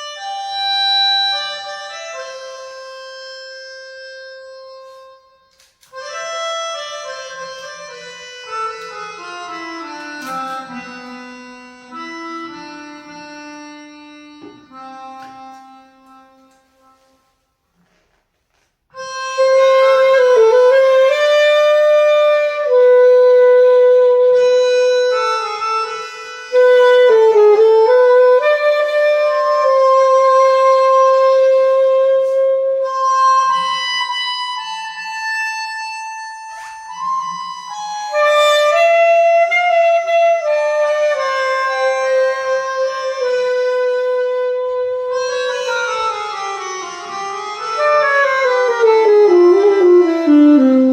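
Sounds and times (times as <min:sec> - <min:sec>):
alto saxophone playing: 0:04.2 - 0:17.3, 0:19.0 - 0:50.9.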